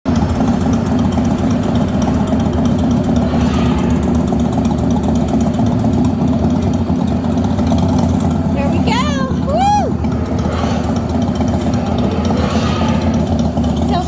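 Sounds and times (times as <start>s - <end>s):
motorbike engine rumble: 0.0s - 14.0s.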